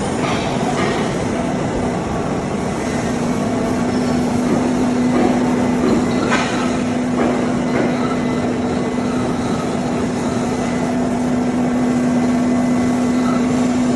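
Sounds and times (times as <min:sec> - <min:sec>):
machine humming: 0:00.0 - 0:13.9.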